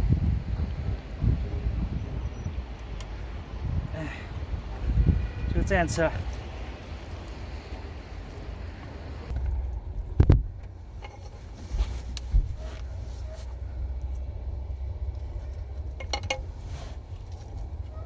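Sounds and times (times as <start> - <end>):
wind buffeting rumble: 0.0 - 18.0.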